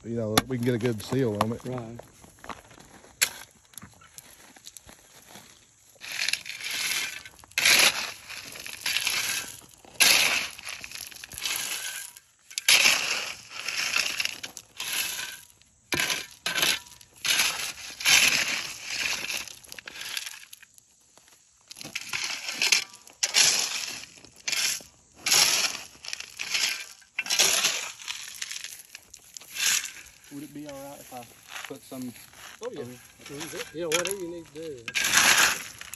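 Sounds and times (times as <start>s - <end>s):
raking gravel and asphalt: 0.0s - 35.9s.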